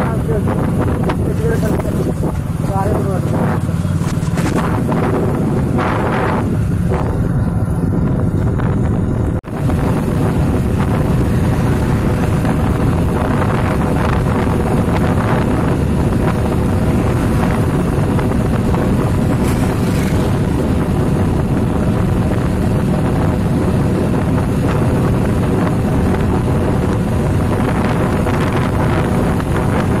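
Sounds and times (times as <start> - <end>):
motorcycle engine running: 0.0 - 30.0
tyres on road: 0.0 - 30.0
wind buffeting microphone: 0.0 - 30.0.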